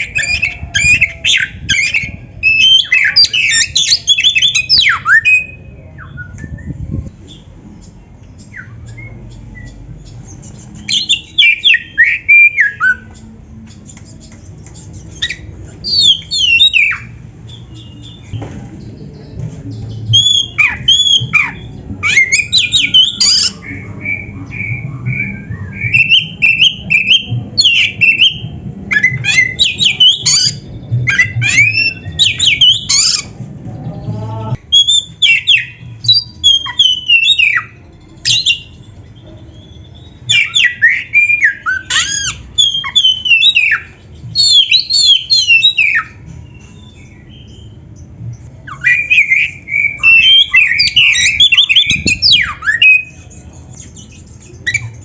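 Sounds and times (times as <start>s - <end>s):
bird singing whistles and chatter: 0.0s - 33.4s, 34.6s - 55.0s.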